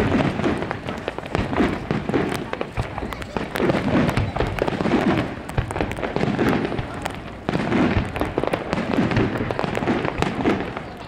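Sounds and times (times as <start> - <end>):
fireworks bursting and crackling: 0.0 - 11.0
low fireworks booms: 0.0 - 11.0.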